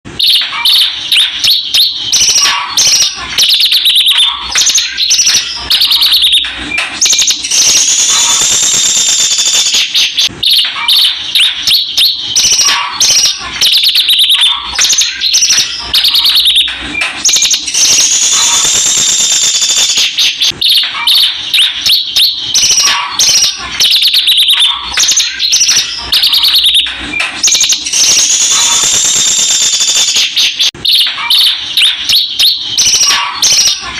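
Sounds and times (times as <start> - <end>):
bird twittering and trilling: 0.2 - 33.9.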